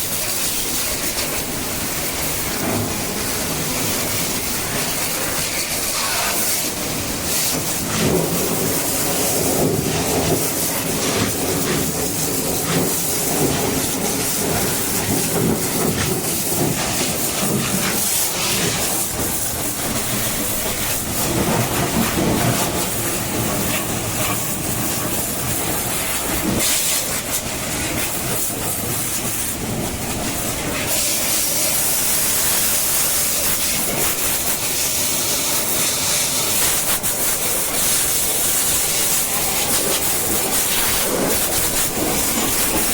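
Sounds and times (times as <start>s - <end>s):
engine running steadily: 0.0s - 42.9s
high-pressure water jet hissing: 0.0s - 42.9s.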